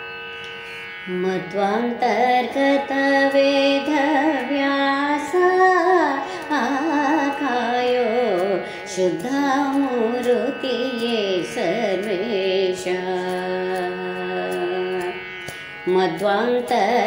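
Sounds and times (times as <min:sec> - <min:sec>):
woman singing devotional song: 0:01.0 - 0:17.0.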